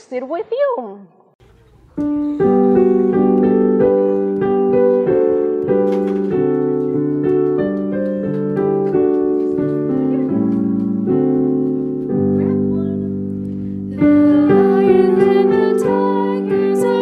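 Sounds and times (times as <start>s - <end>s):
piano melody over chords: 2.0s - 17.0s.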